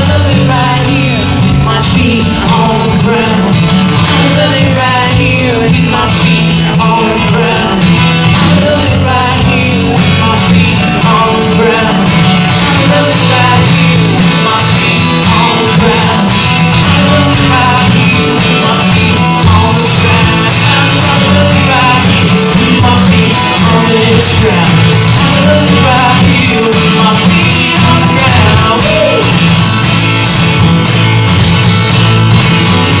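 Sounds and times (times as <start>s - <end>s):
man singing: 0.0s - 29.8s
acoustic guitar strummed: 0.0s - 33.0s.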